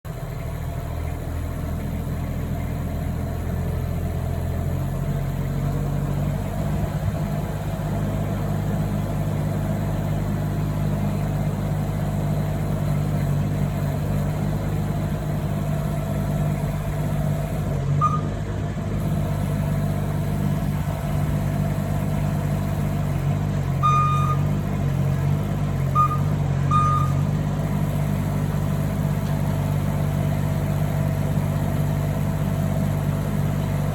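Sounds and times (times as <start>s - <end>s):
auger engine droning: 0.0s - 33.9s.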